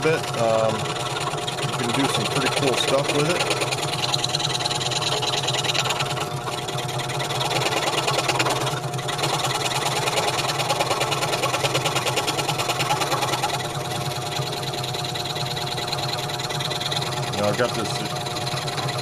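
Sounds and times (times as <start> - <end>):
scroll saw cutting wood: 0.0 - 19.0.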